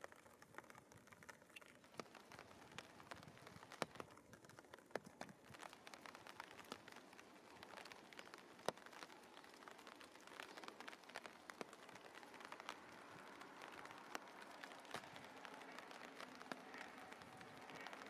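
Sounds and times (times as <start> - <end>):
raindrops ticking on a surface: 0.0 - 18.0
soft steady rain hiss: 0.0 - 18.0.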